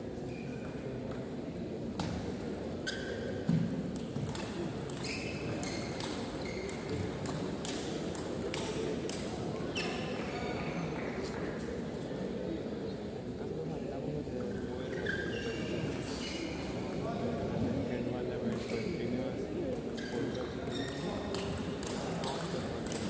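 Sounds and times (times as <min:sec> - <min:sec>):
low hall murmur: 0:00.0 - 0:23.0.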